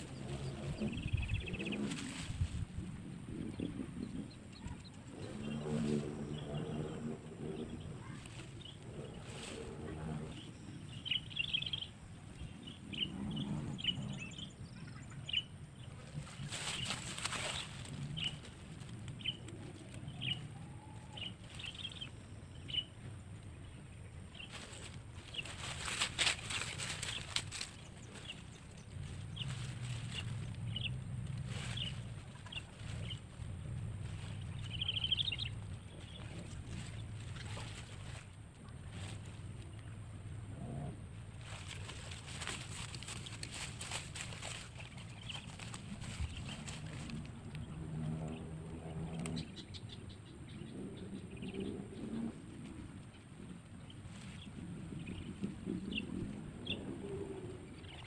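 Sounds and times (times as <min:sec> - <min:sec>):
low steady rumble: 0:00.0 - 0:58.0
small birds chirping: 0:00.0 - 0:58.0.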